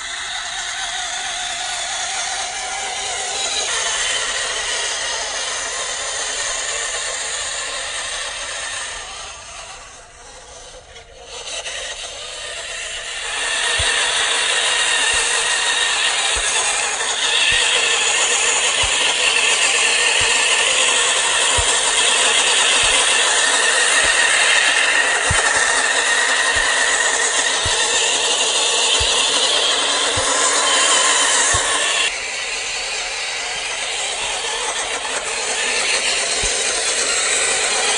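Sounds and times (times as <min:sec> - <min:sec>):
toy car motor whining: 0:00.0 - 0:37.9
tyres on gravel: 0:00.5 - 0:37.9.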